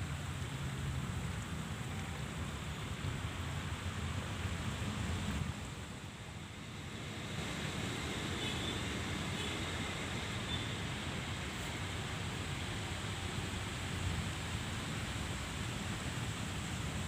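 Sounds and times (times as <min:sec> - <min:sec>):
road traffic rushing by: 0:00.0 - 0:17.0.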